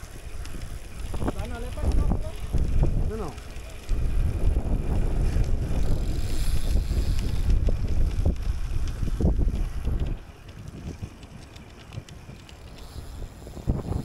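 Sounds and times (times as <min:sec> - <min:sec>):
road noise: 0:00.0 - 0:13.7
wind rumbling on microphone: 0:00.0 - 0:14.0.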